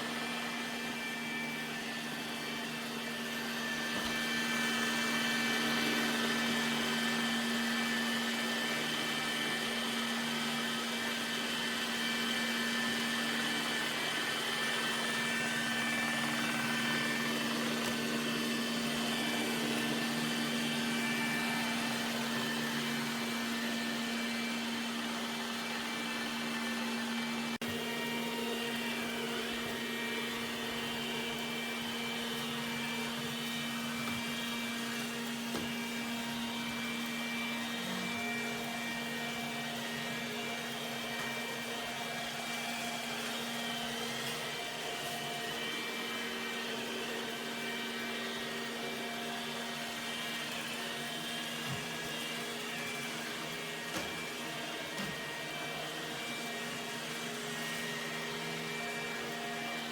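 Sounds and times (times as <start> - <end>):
robot vacuum motor humming: 0.0 - 59.9.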